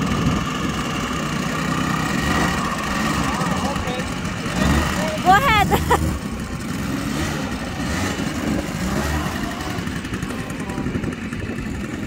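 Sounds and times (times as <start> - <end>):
quad bike engines idling: 0.0 - 12.0.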